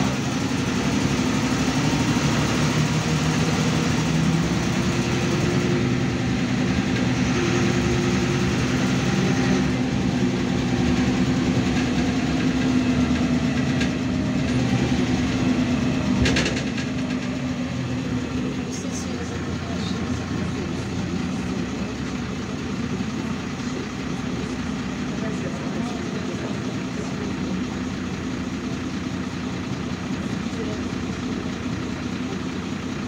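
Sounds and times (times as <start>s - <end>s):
bus diesel engine running: 0.0s - 33.0s.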